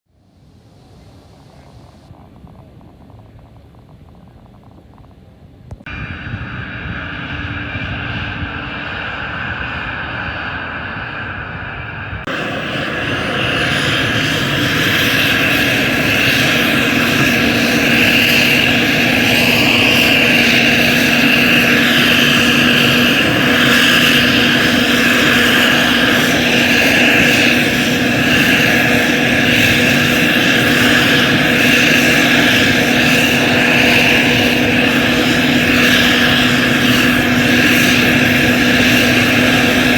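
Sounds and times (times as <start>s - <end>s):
helicopter rotor roar: 0.3s - 39.9s
helicopter engines whining: 0.4s - 39.9s.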